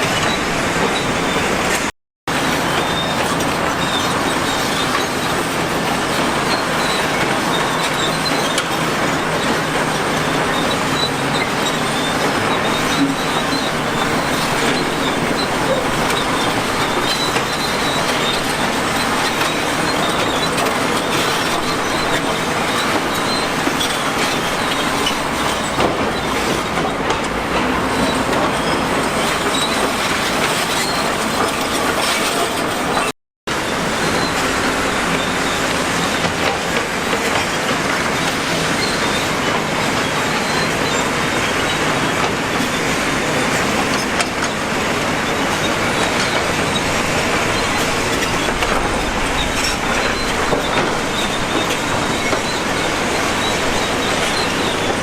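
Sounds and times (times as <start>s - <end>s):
clanking rail-like clatter: 0.0s - 55.0s
heavy diesel machinery working: 0.0s - 55.0s.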